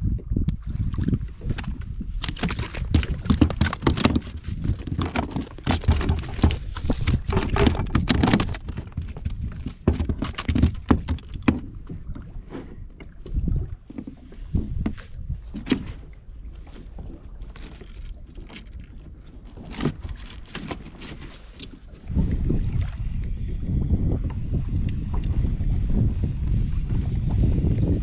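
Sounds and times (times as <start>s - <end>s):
water splashing against hull: 0.0s - 28.0s
wind rumbling on microphone: 0.0s - 28.0s.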